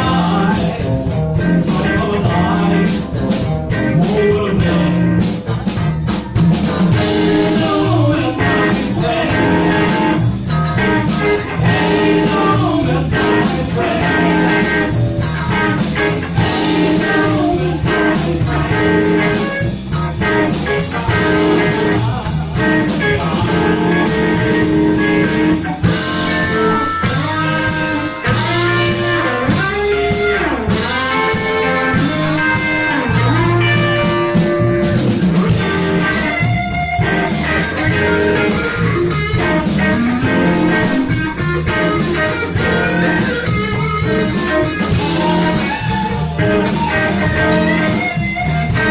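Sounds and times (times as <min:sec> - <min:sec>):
drum kit: 0:00.0 - 0:48.9
live blues band playing: 0:00.0 - 0:48.9
lead guitar solo bending notes: 0:06.9 - 0:48.9.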